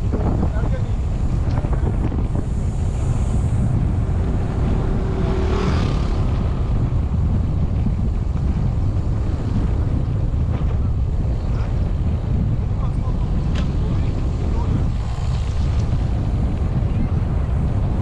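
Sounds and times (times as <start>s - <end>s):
vehicle riding on rough road: 0.0s - 18.0s
wind buffeting microphone: 0.0s - 18.0s.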